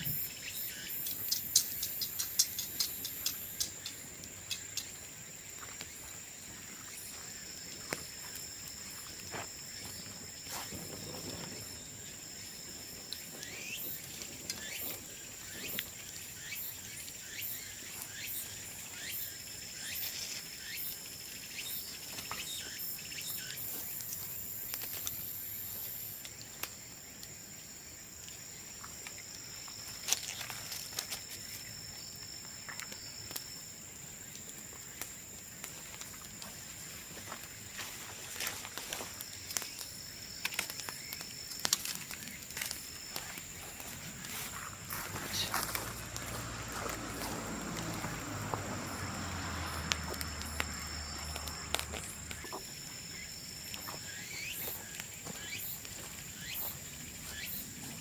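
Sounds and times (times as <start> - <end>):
insect trill: 0.0 - 58.0
bamboo bonfire crackling and popping: 0.9 - 6.0, 7.6 - 58.0.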